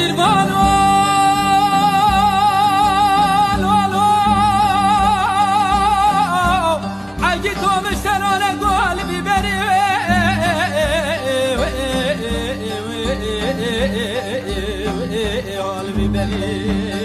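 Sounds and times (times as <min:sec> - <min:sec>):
instrumental backing: 0:00.0 - 0:17.0.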